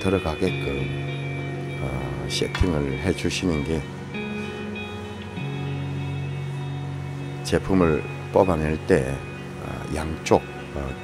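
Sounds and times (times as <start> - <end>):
background music sustained chords: 0.0 - 11.0.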